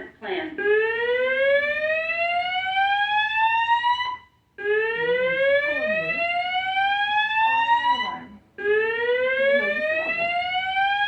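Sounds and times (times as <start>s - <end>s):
fire alarm whoop tone: 0.6s - 11.0s.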